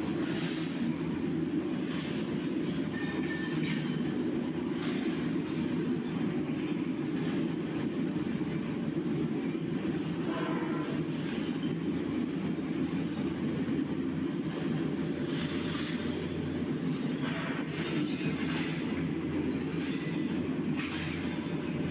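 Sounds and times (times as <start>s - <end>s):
machinery rumble: 0.0s - 21.9s.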